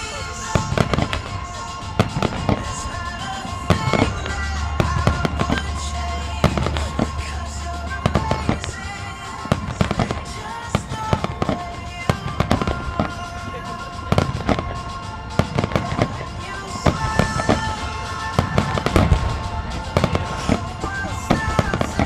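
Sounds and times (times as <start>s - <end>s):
background music: 0.0s - 22.0s
firework shells bursting: 0.0s - 22.0s.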